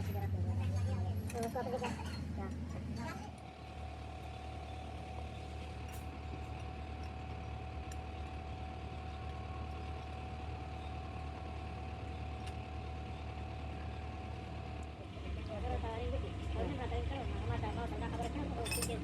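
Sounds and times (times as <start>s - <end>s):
motor humming and whining: 0.0s - 19.0s.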